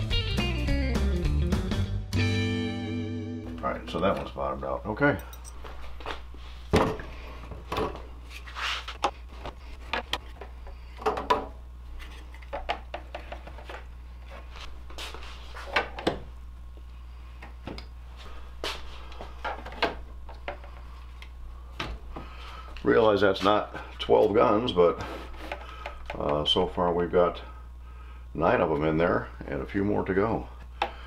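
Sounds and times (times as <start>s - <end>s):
steady low hum: 2.9s - 31.0s.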